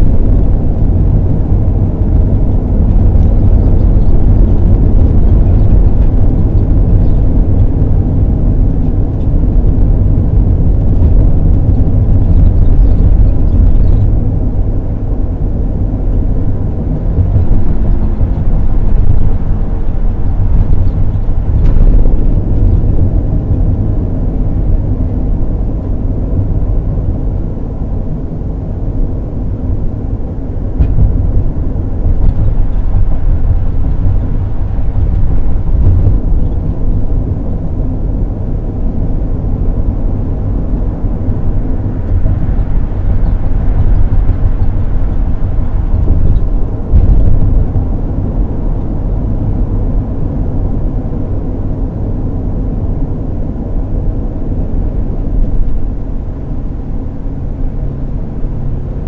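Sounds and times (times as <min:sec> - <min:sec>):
road and engine rumble in cab: 0:00.0 - 0:59.0.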